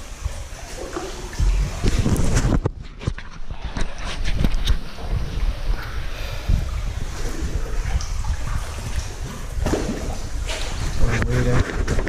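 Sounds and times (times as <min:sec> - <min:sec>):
water slapping: 0:00.0 - 0:12.0.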